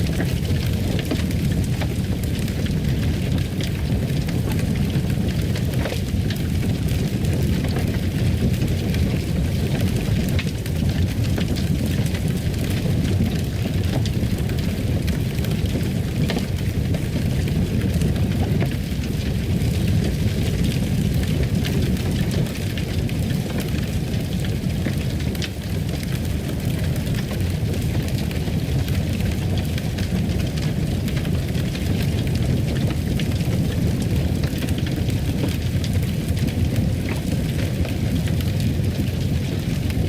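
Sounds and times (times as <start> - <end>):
fire crackles and pops: 0.0 - 40.0
low rumble of burning wood: 0.0 - 40.0.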